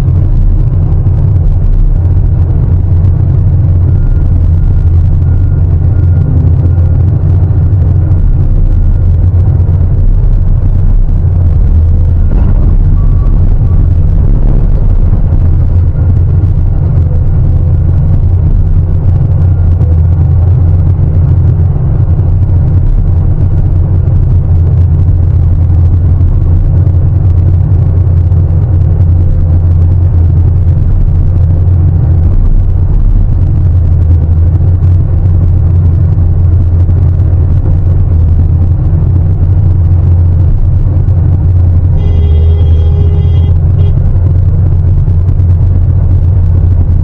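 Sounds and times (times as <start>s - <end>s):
excavator engine rumbling: 0.0s - 47.0s.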